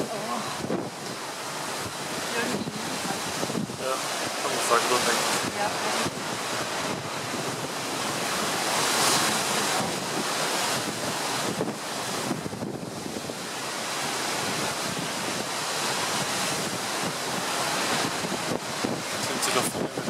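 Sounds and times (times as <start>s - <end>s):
sea waves washing: 0.0s - 20.0s
wind rushing over microphone: 0.0s - 20.0s.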